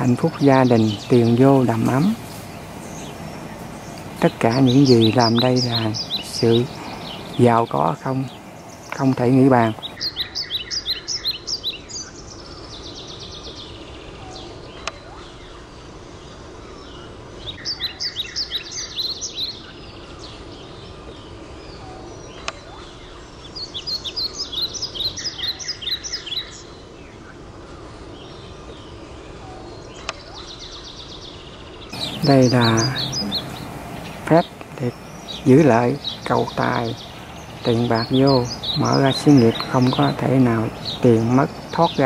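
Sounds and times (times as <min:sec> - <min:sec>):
bird singing rapid high chirps: 0:00.0 - 0:15.6, 0:16.3 - 0:27.2, 0:29.6 - 0:42.0
outdoor background noise: 0:00.0 - 0:42.0.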